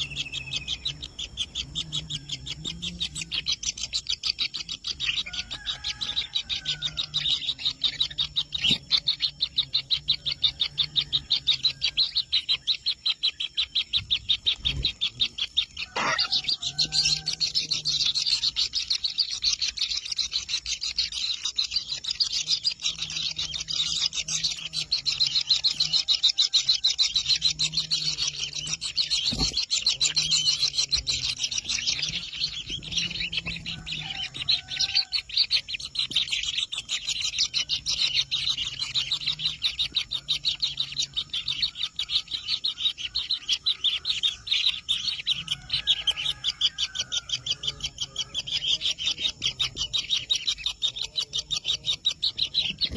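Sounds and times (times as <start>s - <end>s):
nestlings buzzing calls: 0.0s - 52.9s.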